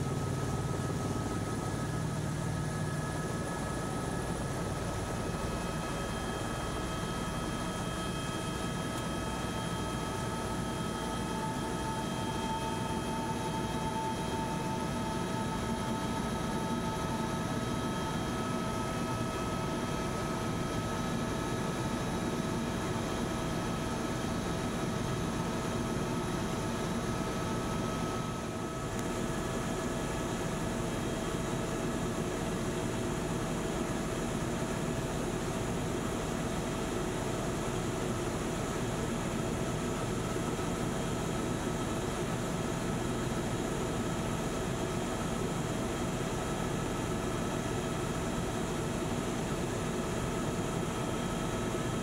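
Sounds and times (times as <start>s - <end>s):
helicopter engine and rotor drone: 0.0s - 52.0s.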